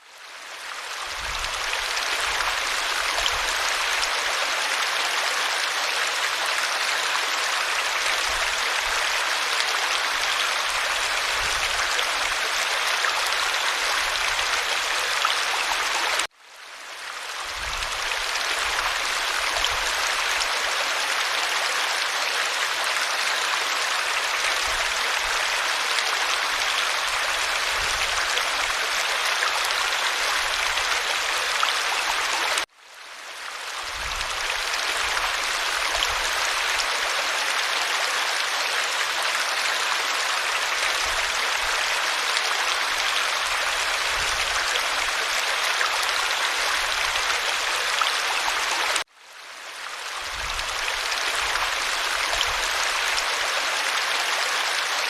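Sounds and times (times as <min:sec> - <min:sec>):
stream water rushing: 0:00.2 - 0:55.0.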